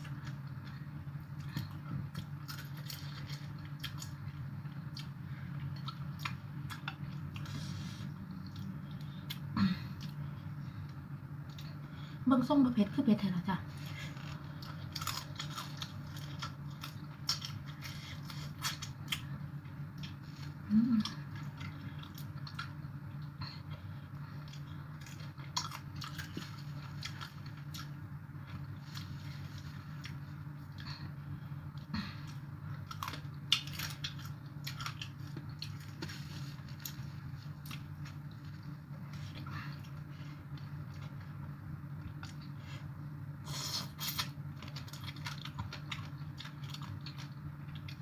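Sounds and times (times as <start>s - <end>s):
person chewing food: 0.0s - 11.8s, 13.8s - 48.0s
steady low hum: 0.0s - 48.0s.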